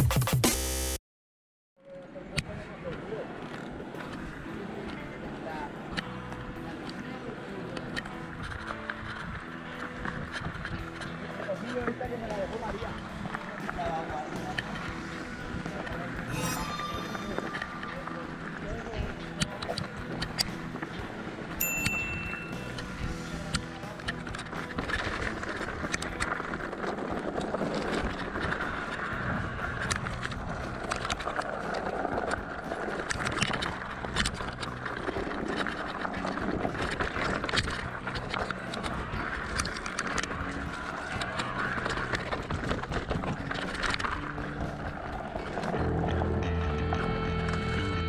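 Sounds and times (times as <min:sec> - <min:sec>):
bike knocking and rattling: 0:03.4 - 0:16.2, 0:18.2 - 0:45.8.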